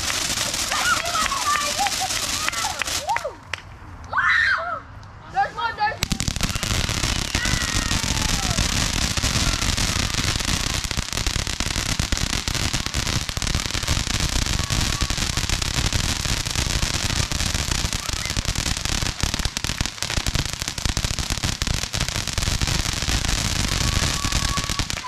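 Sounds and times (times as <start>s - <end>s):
firework hissing and crackling: 0.0s - 3.3s, 6.0s - 25.0s.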